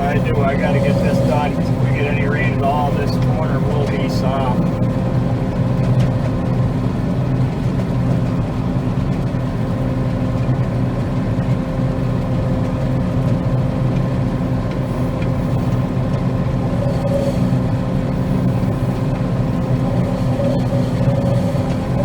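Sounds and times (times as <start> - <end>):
combine harvester engine drone: 0.0 - 22.0
whining drive tones: 0.0 - 22.0.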